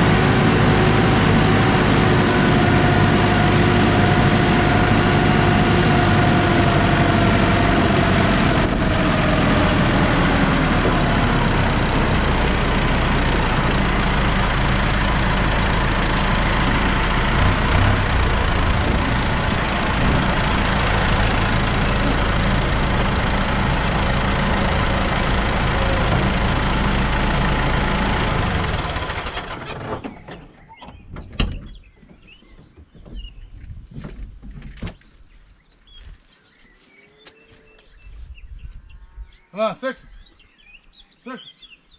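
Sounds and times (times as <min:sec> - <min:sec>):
tractor engine running: 0:00.0 - 0:35.3.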